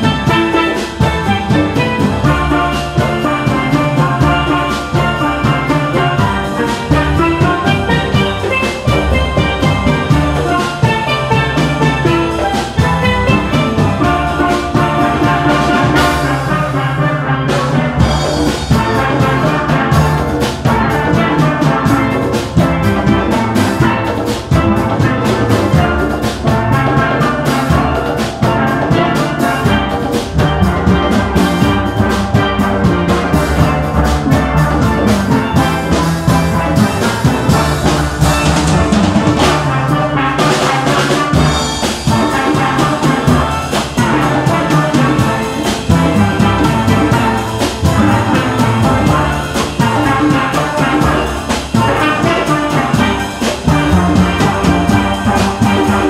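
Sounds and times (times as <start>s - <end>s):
steelpans playing: 0.0s - 56.0s.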